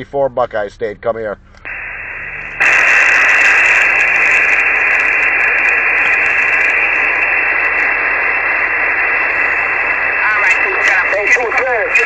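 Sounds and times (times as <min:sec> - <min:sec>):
radio static hiss: 0:01.6 - 0:12.0.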